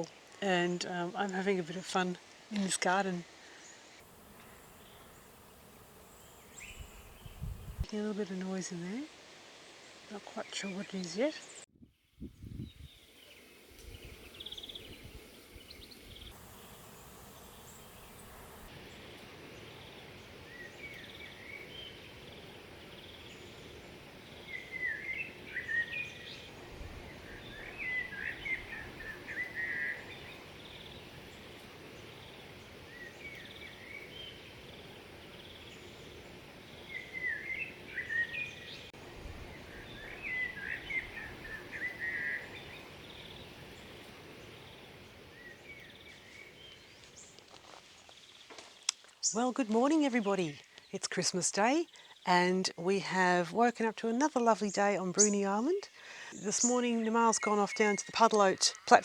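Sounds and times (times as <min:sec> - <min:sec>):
small birds chirping: 0:00.0 - 0:09.1, 0:09.8 - 0:11.6, 0:12.2 - 0:59.0
steady background hiss: 0:00.0 - 0:11.7, 0:12.8 - 0:59.0.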